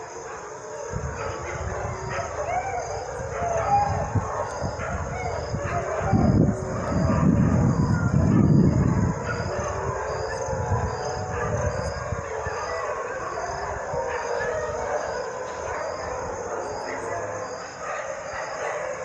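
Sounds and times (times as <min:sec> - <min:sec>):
dogs whining and howling: 0:00.0 - 0:19.0.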